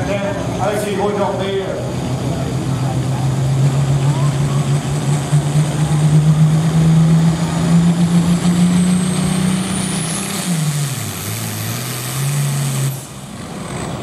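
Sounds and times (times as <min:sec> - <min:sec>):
tractor diesel engine revving: 0:00.0 - 0:14.0.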